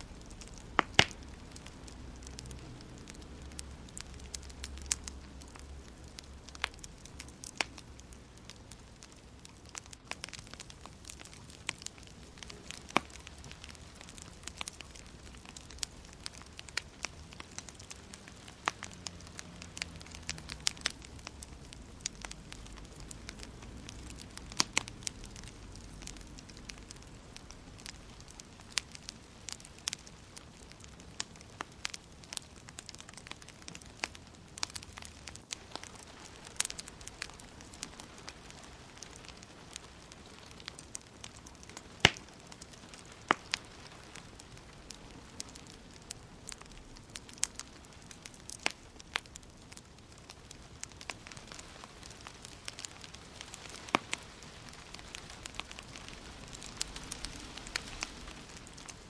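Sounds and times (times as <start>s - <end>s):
wood fire crackling: 0.0s - 59.0s
sharp pops of fire: 0.2s - 59.0s.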